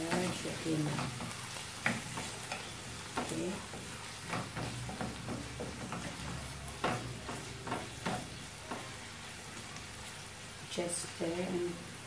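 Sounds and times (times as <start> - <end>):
wooden spatula scraping a pan: 0.0 - 10.3
vegetables sizzling in a frying pan: 0.0 - 12.0.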